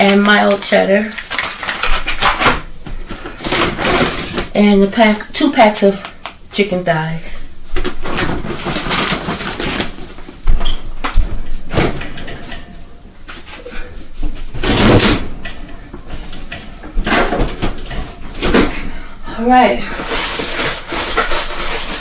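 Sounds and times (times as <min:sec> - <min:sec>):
groceries rustling: 0:00.0 - 0:22.0.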